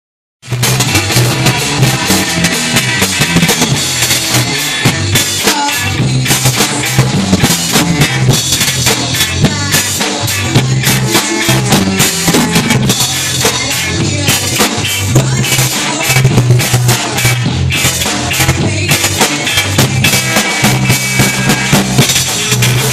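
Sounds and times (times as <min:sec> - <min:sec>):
ska band playing live: 0:00.4 - 0:22.9.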